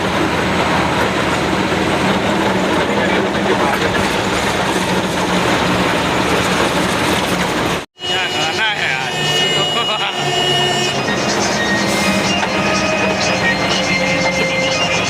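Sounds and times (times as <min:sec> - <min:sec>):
truck engine hum: 0:00.0 - 0:15.0.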